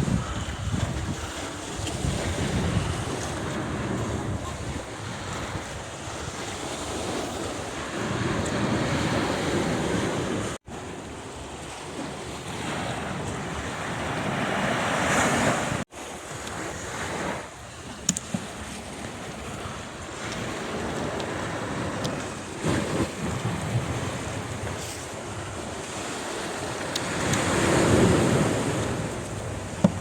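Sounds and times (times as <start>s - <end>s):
wind buffeting microphone: 0.0s - 15.8s, 16.6s - 30.0s
sea surf washing: 0.0s - 30.0s.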